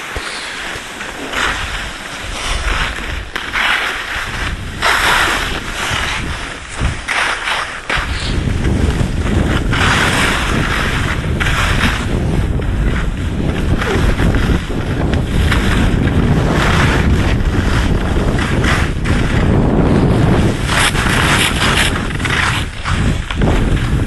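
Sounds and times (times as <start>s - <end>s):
wind buffeting microphone: 4.1s - 24.0s.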